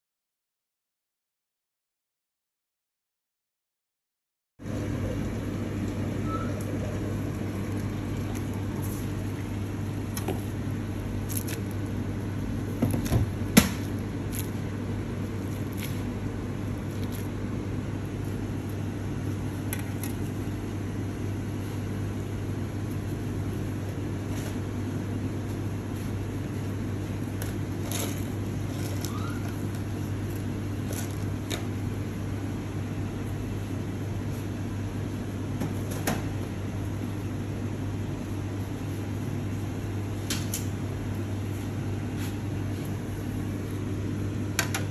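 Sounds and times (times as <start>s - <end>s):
low mechanical hum: 4.6s - 44.9s.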